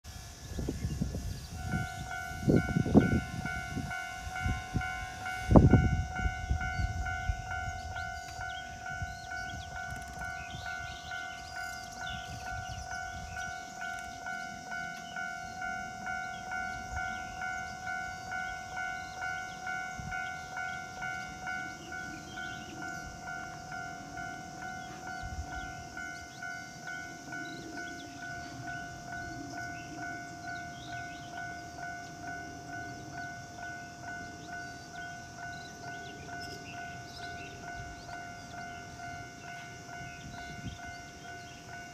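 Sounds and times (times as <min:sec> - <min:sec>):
level crossing warning bell: 0:00.1 - 0:41.9.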